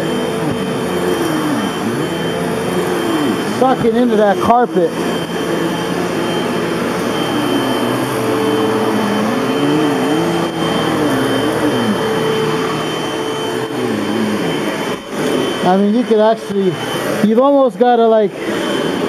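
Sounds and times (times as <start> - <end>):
vacuum cleaner on carpet: 0.0 - 19.0.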